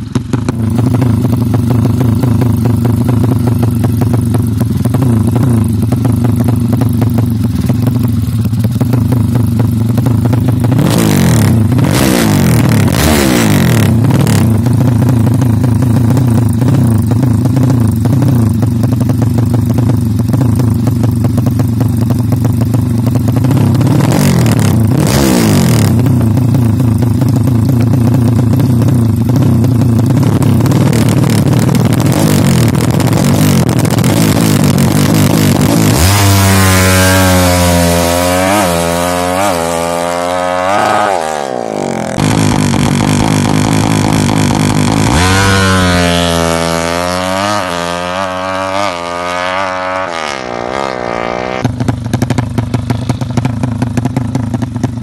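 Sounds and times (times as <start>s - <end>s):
motorcycle engine idling: 0.0s - 55.0s
motorcycle throttle blips: 0.0s - 55.0s.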